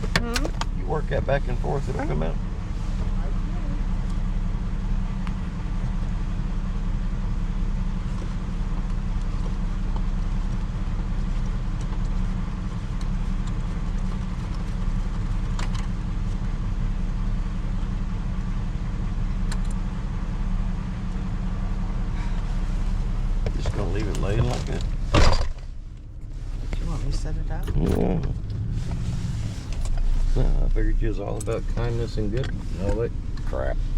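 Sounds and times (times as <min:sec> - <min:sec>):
motor vehicle rumbling: 0:00.0 - 0:33.9.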